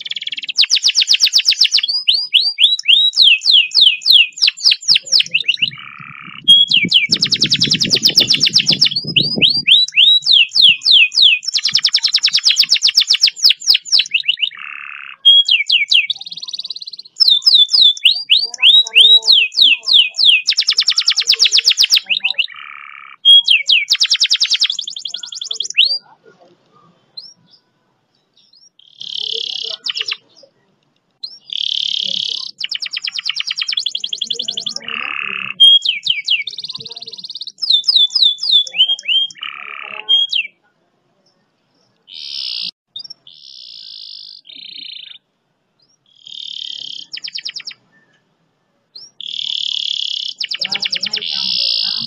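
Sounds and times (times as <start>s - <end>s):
canary singing: 0.0s - 40.6s, 41.2s - 48.3s, 48.9s - 52.0s.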